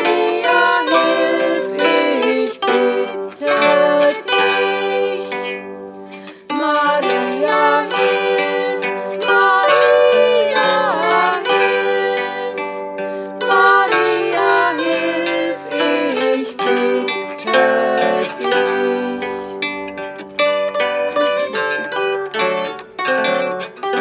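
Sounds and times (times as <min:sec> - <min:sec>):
zither playing hymn tune: 0:00.0 - 0:23.9.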